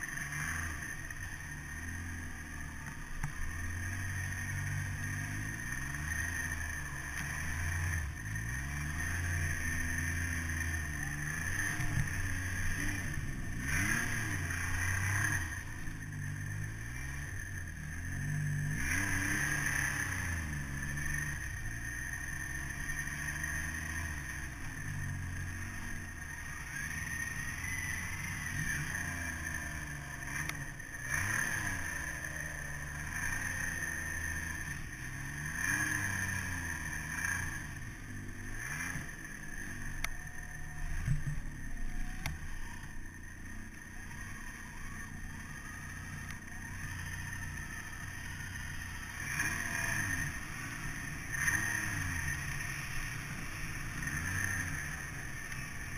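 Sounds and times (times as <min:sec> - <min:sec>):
snowmobile engine revving: 0:00.0 - 0:55.9
steady high whine: 0:00.0 - 0:55.9.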